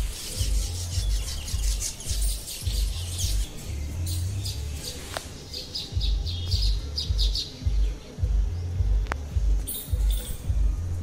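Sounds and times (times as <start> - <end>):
music with pulsing bass beat: 0.0 - 4.8, 5.8 - 11.0
small birds chirping: 0.0 - 11.0.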